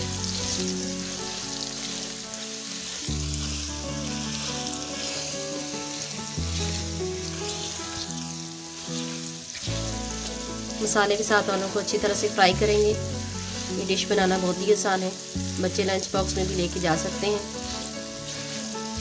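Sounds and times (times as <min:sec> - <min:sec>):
background music chords: 0:00.0 - 0:19.0
potatoes sizzling in oil: 0:00.0 - 0:19.0
spatula stirring in pan: 0:00.0 - 0:19.0.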